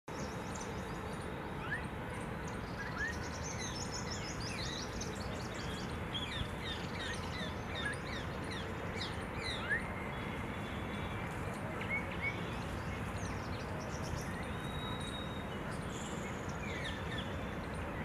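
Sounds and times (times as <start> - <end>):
birds chirping: 0.1 - 18.0
low background noise: 0.1 - 18.0.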